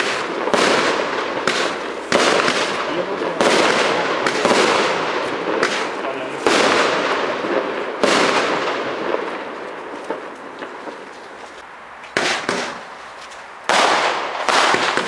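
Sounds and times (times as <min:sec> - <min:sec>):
fireworks bangs with crackling: 0:00.0 - 0:15.0.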